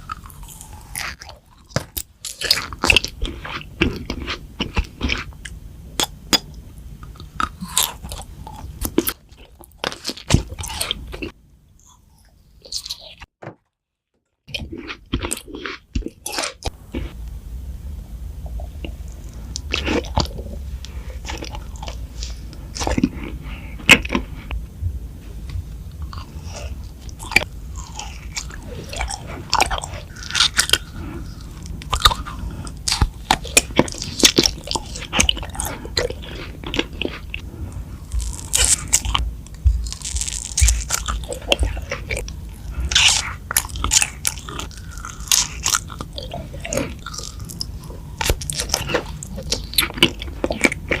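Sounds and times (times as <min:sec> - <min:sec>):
person chewing crunchy food: 0:00.0 - 0:13.3, 0:14.5 - 0:17.2, 0:18.4 - 0:24.6, 0:25.8 - 0:51.0.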